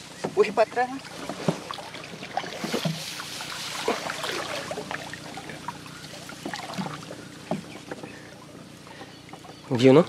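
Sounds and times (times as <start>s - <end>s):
water splashing around canoe: 0.1s - 10.0s.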